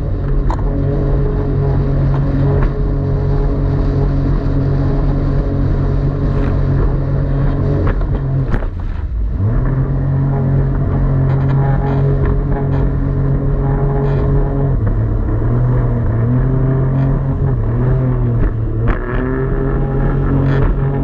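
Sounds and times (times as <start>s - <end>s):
jet ski engine running: 0.0s - 21.0s.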